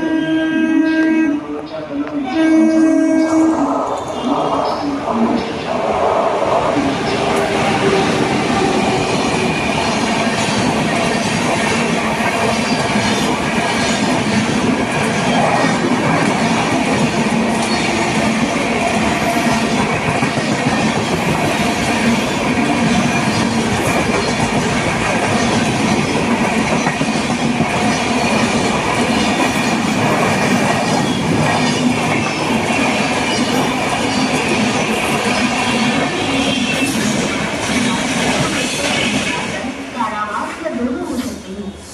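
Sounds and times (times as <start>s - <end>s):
train coaches rumbling past: 0.0s - 41.9s.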